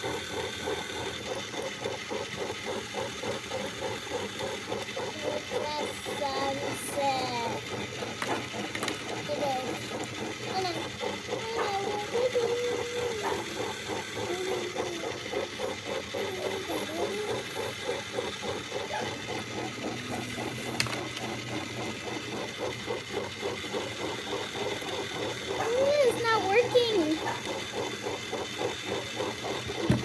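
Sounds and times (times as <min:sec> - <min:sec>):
small motor rattling: 0:00.0 - 0:30.0.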